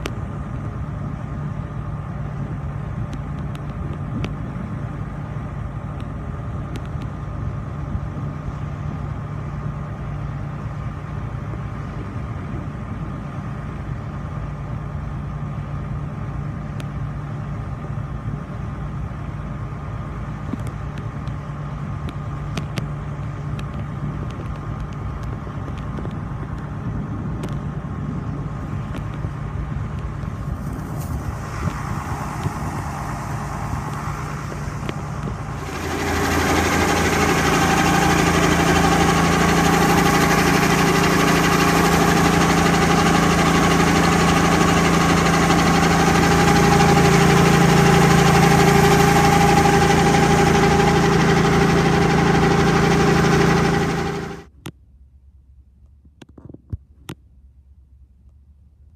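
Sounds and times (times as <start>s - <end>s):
loud engine and machinery noise: 0.0s - 54.7s
combine harvester hum: 0.0s - 55.9s.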